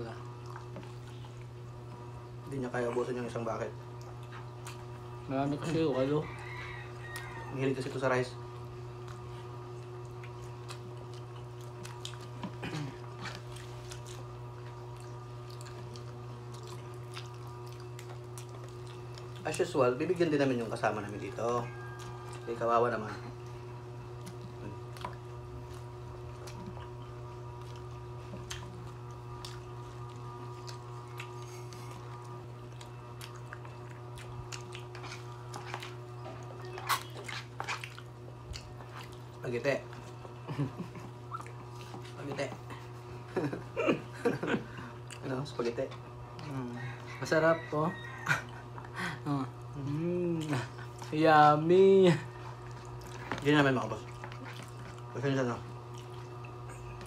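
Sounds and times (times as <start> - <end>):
chewing and crunching: 0.0 - 57.0
low electrical hum: 0.0 - 57.0.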